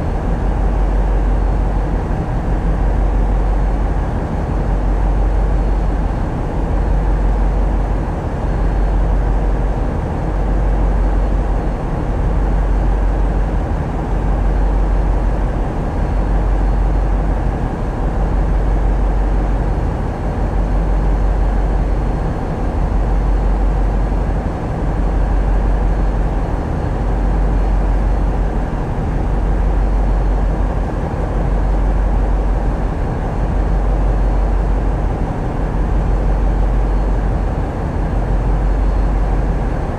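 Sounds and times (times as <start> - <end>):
boat diesel engines droning: 0.0 - 39.9.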